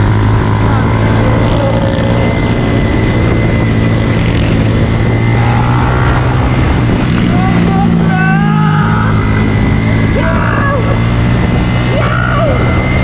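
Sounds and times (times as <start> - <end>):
motorcycle engine running: 0.0 - 13.0
thin high whine: 0.0 - 13.0.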